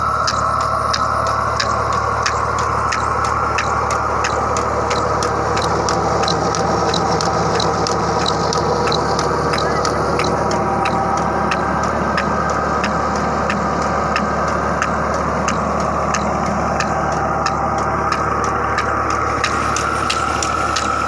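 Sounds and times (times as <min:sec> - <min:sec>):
sharp regular ticking: 0:00.0 - 0:21.0
tractor engine running under load: 0:00.0 - 0:21.0.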